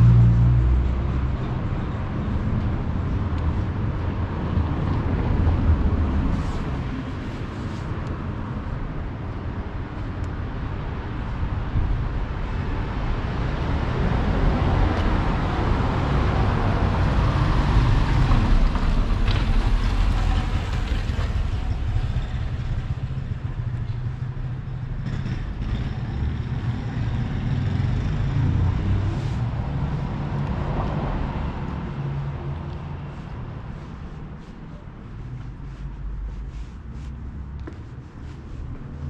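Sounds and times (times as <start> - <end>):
vehicles driving past: 0.0 - 39.0.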